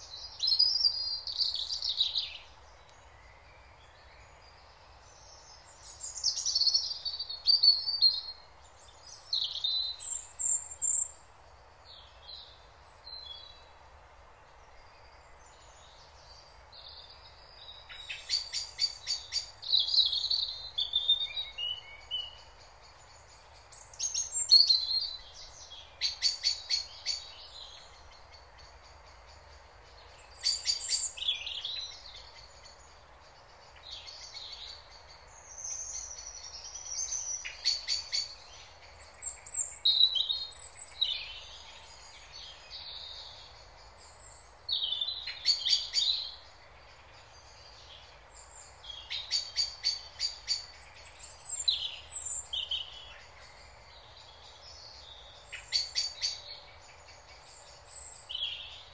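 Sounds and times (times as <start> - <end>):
faint steady hiss: 0.0 - 58.9
songbirds singing: 0.0 - 58.9.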